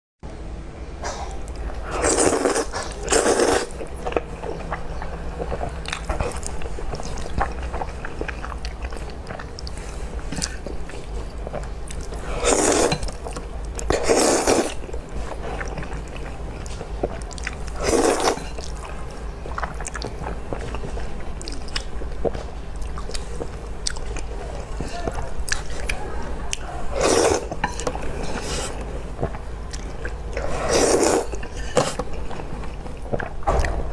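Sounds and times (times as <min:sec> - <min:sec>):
loud noisy eating bursts: 0:01.0 - 0:21.8, 0:23.1 - 0:32.8
chewing noodles: 0:01.2 - 0:33.7.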